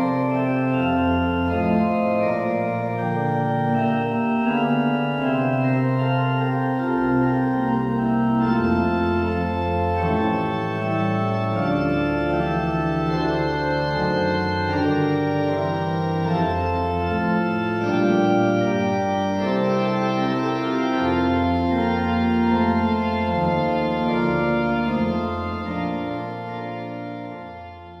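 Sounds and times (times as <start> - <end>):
organ playing slow chords: 0.0 - 28.0.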